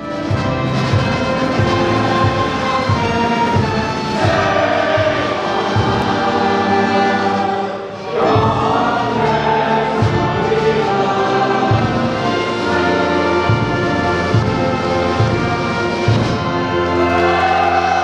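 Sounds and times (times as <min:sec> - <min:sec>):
choir singing held chords: 0:00.0 - 0:18.0
instrumental accompaniment: 0:00.0 - 0:18.0.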